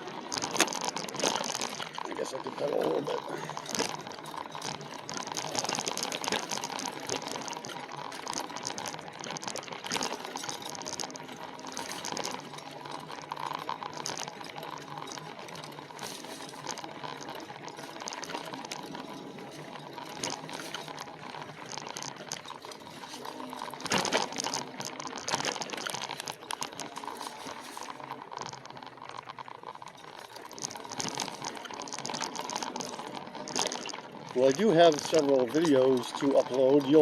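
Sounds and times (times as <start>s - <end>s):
electric bike riding on trail: 0.0s - 37.0s
faint steady hum: 0.0s - 37.0s
small crackles and rattles: 0.0s - 37.0s.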